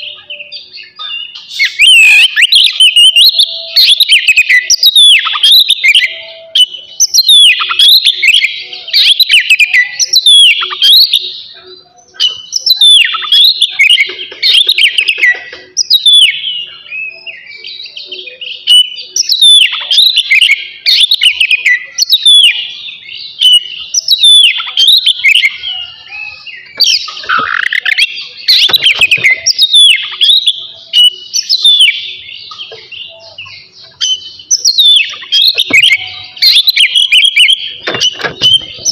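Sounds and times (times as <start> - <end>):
bird singing whistles and chirps: 0.0 - 38.9.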